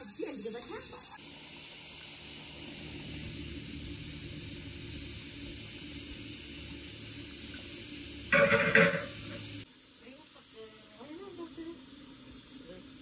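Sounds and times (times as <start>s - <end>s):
food hissing over fire: 0.0s - 13.0s.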